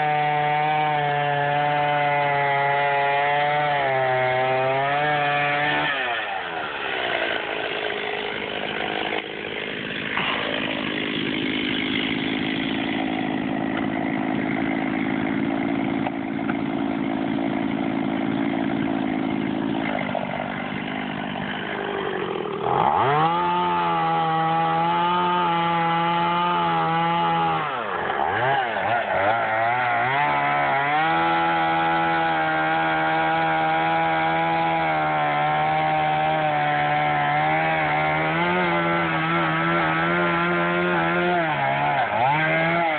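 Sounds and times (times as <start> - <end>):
chainsaw cutting a tree: 0.0 - 42.9.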